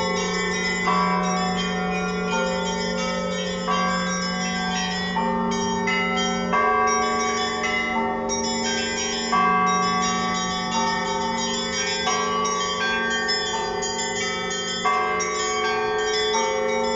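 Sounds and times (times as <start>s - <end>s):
church bells ringing: 0.0s - 16.9s.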